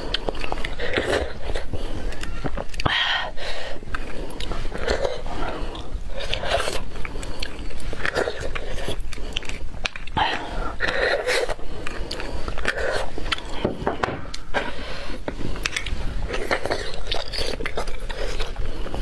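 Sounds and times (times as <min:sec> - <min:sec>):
person chewing bone: 0:00.0 - 0:19.0.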